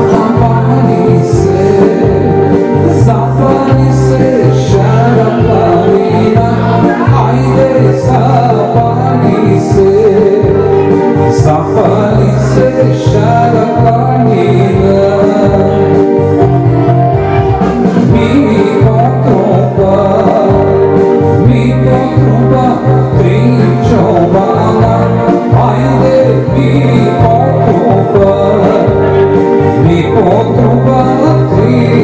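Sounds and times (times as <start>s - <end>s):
instrumental backing music: 0.0s - 32.0s
man singing into a microphone: 0.0s - 32.0s
repeating bass line: 0.0s - 32.0s.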